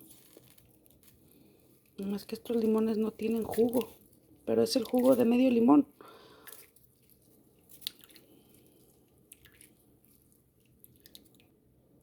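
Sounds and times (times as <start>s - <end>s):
lemon squishing: 0.0s - 11.6s.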